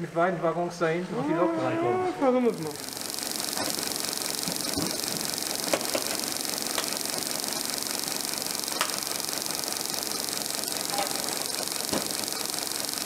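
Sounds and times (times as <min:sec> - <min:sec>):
steam hissing: 0:02.4 - 0:13.0.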